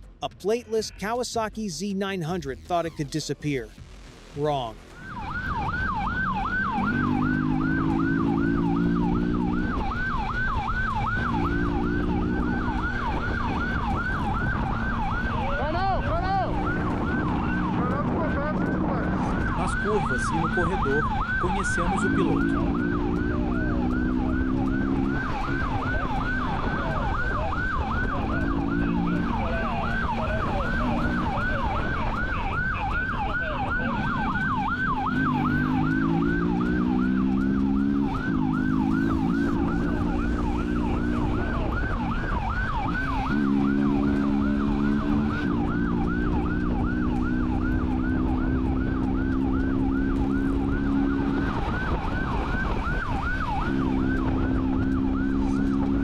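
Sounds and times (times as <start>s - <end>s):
wind and road noise: 0.0s - 56.0s
police siren yelping: 4.4s - 56.0s
motorcycle engine shifting gears: 5.2s - 19.8s, 20.4s - 33.3s, 33.9s - 56.0s.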